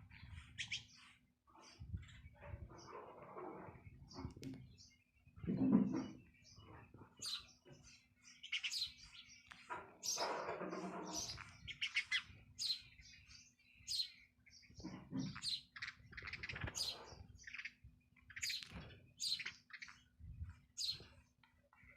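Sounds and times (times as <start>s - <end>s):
bird chirping: 0.0s - 21.9s.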